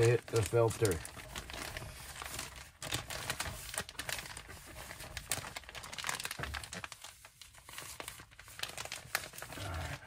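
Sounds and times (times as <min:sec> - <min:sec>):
paper towel wiping: 0:00.0 - 0:09.6
plastic bag crinkling: 0:00.0 - 0:10.0.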